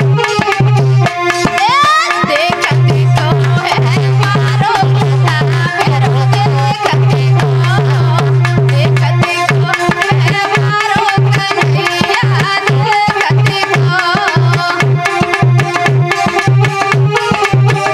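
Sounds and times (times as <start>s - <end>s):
folk melody: 0.0s - 17.9s
hand drum beat: 0.0s - 17.9s.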